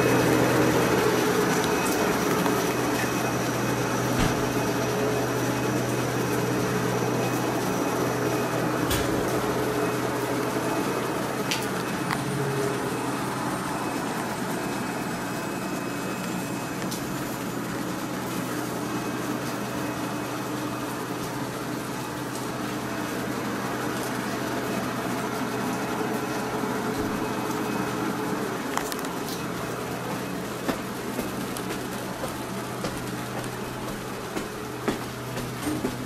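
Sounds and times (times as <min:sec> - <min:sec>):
train equipment steady hum: 0:00.0 - 0:36.0.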